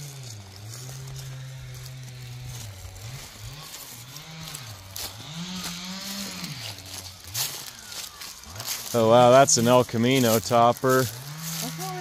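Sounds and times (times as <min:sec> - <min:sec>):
distant engine revving: 0:00.0 - 0:12.0
footsteps crunching through grass: 0:00.0 - 0:12.0.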